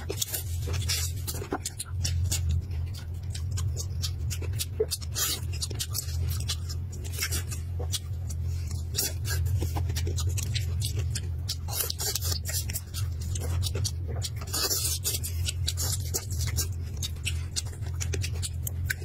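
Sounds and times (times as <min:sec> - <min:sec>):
chewing with wet smacks: 0:00.0 - 0:19.0
steady low hum: 0:00.0 - 0:19.0.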